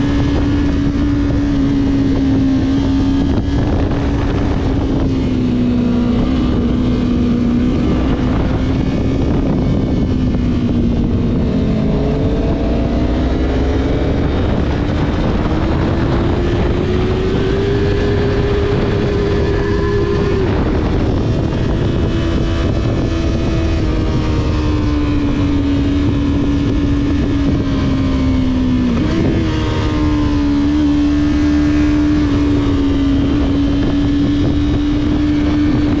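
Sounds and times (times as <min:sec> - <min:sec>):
motorcycle engine running: 0:00.0 - 0:36.0
wind noise: 0:00.0 - 0:36.0.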